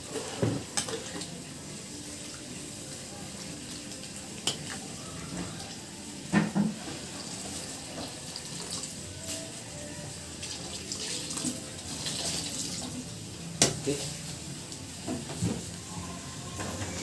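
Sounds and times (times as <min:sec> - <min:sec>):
water pouring and splashing: 0:00.0 - 0:09.7, 0:10.3 - 0:15.8.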